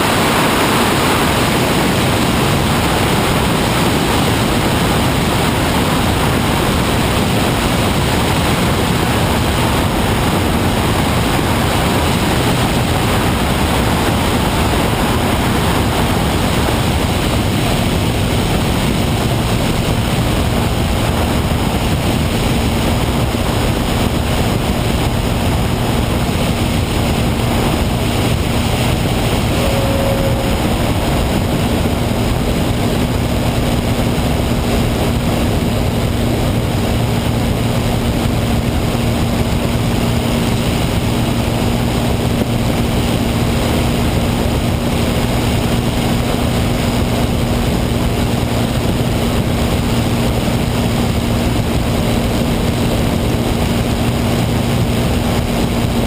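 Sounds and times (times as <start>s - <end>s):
propeller plane engine droning: 0.0s - 56.0s
rushing air noise: 0.0s - 56.0s.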